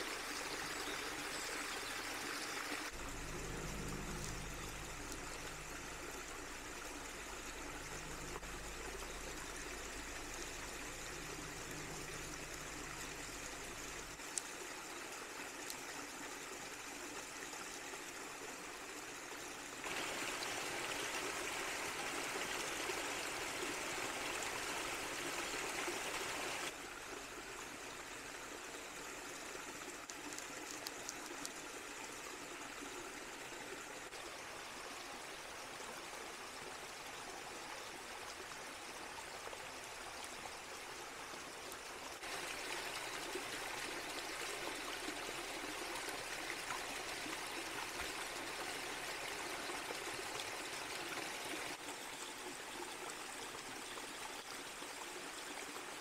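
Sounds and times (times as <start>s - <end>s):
water babbling over rocks: 0.0s - 56.0s.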